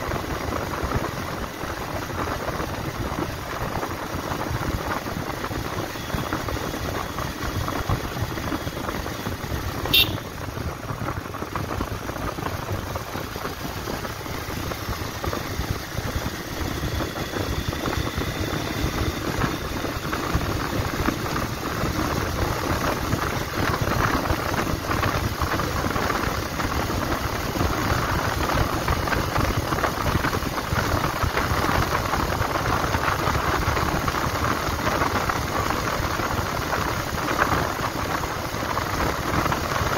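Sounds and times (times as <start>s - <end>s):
motorcycle engine running: 0.0s - 39.9s
road noise: 0.0s - 39.9s
rushing wind: 0.0s - 39.9s.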